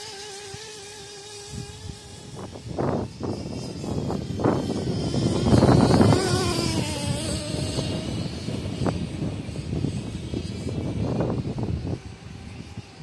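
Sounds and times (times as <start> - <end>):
rc truck engine revving: 0.0 - 13.0.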